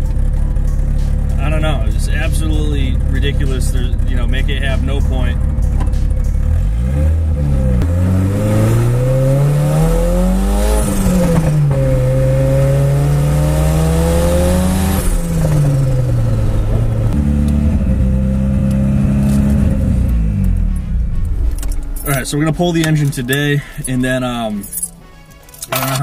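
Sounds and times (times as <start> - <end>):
car engine revving: 0.0 - 24.8.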